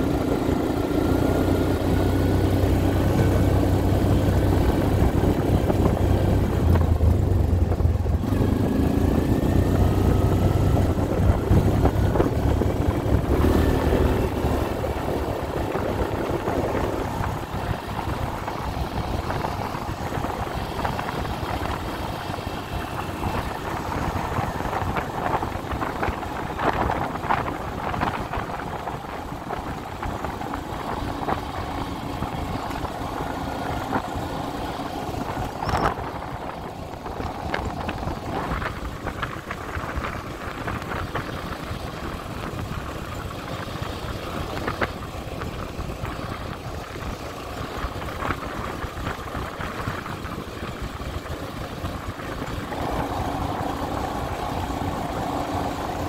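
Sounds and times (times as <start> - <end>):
atv engine hum: 0.0 - 56.0
tyre and wind noise: 0.0 - 56.0.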